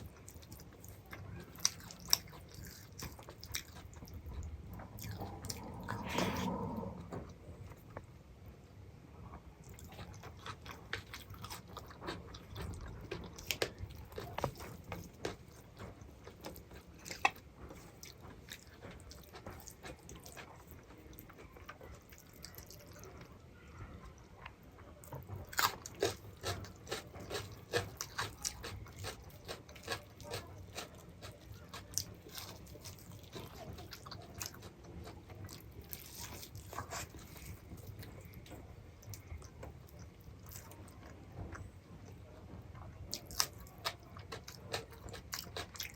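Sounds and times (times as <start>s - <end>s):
close-miked chewing: 0.0s - 8.1s, 9.3s - 45.9s.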